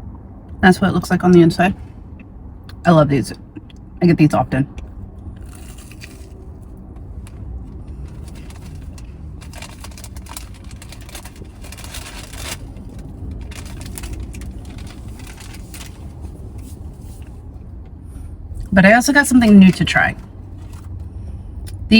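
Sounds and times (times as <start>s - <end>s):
car cabin rumble: 2.9s - 21.9s.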